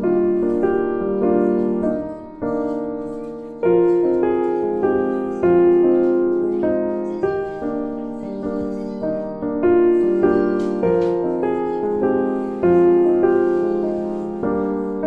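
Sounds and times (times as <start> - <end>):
gentle piano tune: 0.0 - 15.0.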